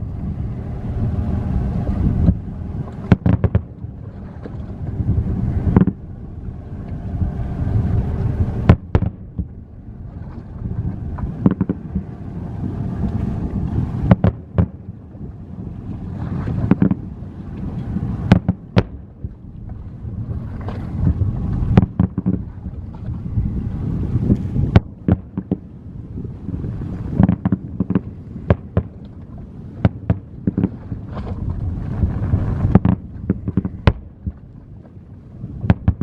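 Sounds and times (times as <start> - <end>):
low rumble of fireworks: 0.0 - 36.0.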